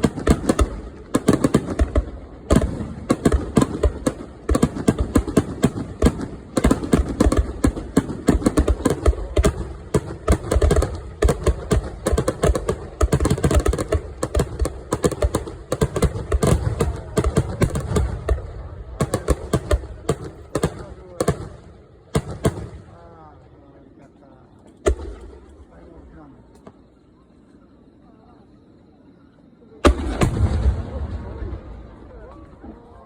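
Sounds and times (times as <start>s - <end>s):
fireworks bangs and crackles: 0.0s - 27.1s, 29.8s - 33.0s.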